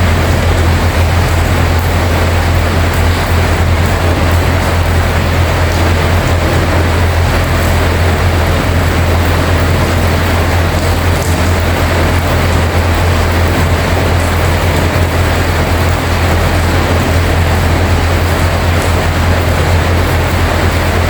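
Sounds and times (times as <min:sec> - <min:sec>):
constant low hum: 0:00.0 - 0:21.0
heavy rain falling: 0:00.0 - 0:21.0.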